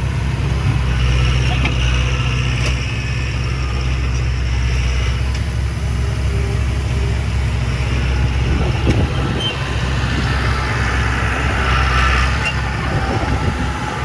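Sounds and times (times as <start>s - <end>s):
heavy diesel machinery drone: 0.0s - 14.0s
mechanical rushing noise: 0.0s - 14.0s.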